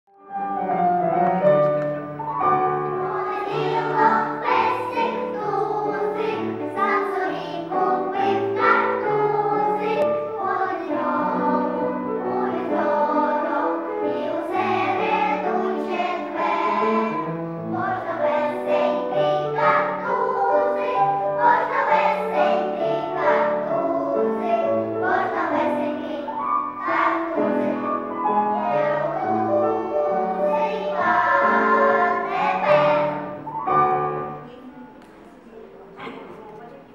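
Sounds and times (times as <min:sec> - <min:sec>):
piano accompaniment: 0:00.1 - 0:36.6
children's choir singing: 0:00.3 - 0:36.3.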